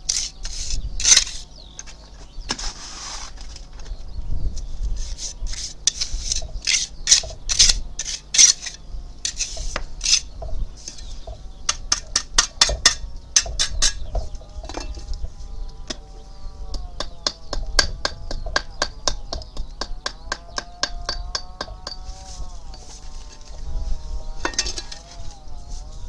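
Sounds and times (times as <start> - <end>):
hand tool scraping: 0.0 - 3.7, 4.9 - 26.0.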